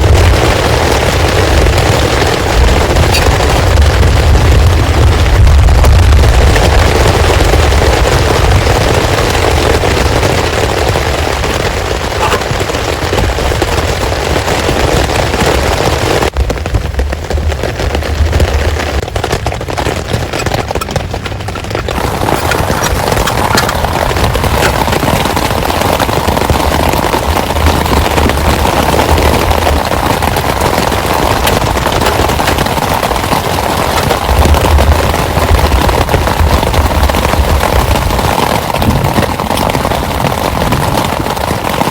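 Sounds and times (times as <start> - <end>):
deep rumbling: 0.0 - 41.6
heavy rain drumming: 0.0 - 41.9.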